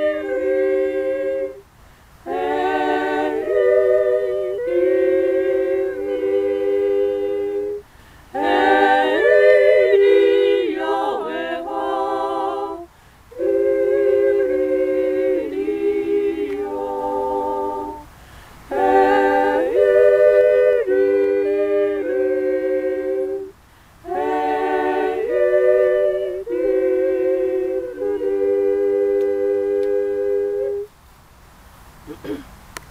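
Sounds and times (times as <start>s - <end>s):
group singing a cappella: 0.0s - 30.9s.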